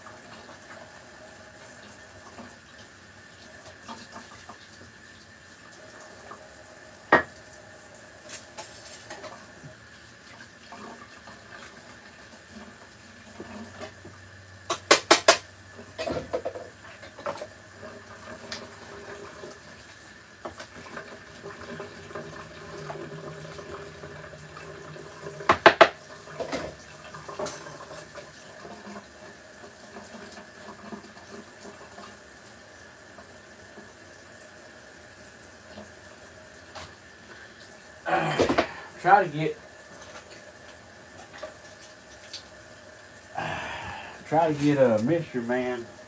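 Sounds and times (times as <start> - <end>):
water running from tap: 0.0 - 46.0.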